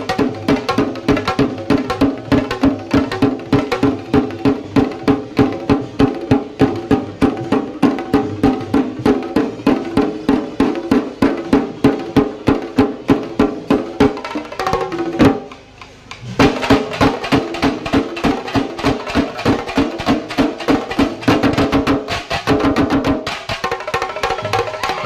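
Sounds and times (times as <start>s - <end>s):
drum ensemble playing fast rhythm: 0.0s - 25.0s.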